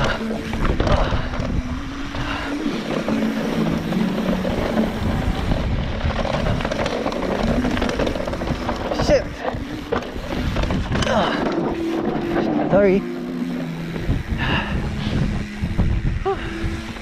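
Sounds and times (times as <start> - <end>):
bike tyres and frame rattling: 0.0 - 17.0
wind buffeting microphone: 0.0 - 17.0.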